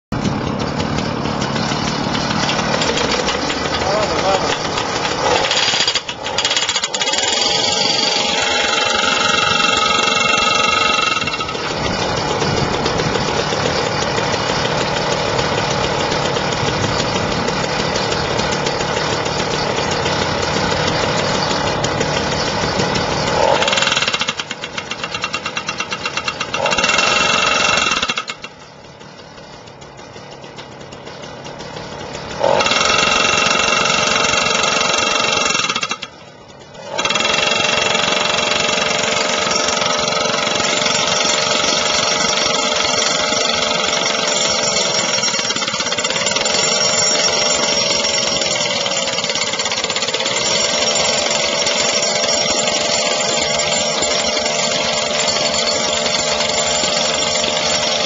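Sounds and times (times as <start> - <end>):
jackhammer hammering: 0.0 - 58.0.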